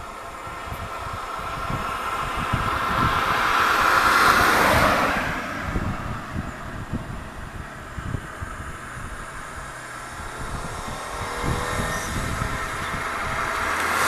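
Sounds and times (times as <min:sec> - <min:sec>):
car passing close: 0:00.0 - 0:14.0
road traffic rumble: 0:00.0 - 0:14.0.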